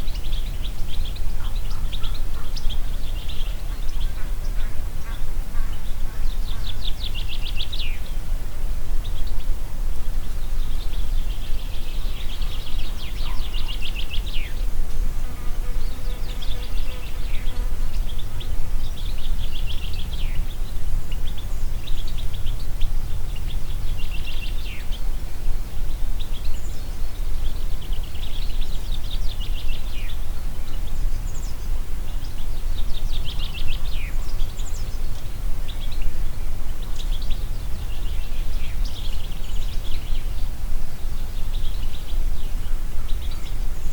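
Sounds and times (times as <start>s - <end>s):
songbird trilled song: 0.0s - 8.1s, 10.2s - 15.0s, 15.6s - 25.2s, 25.8s - 43.9s
wind rumbling on microphone: 0.0s - 43.9s.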